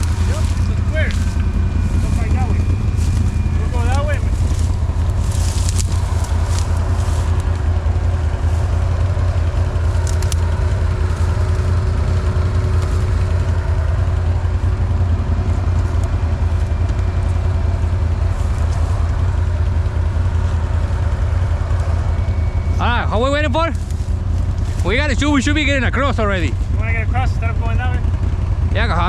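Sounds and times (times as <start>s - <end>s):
off-road vehicle engine idling: 0.0s - 29.0s.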